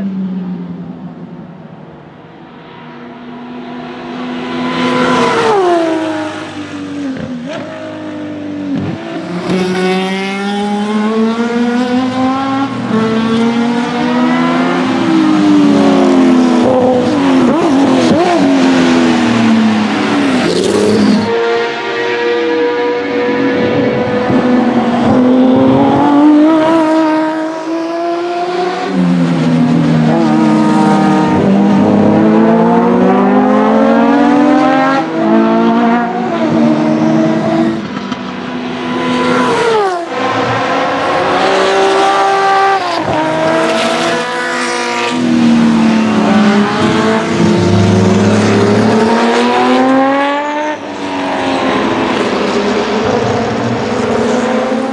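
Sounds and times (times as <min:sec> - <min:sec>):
racing engine revving through gears: 0:08.8 - 0:54.9.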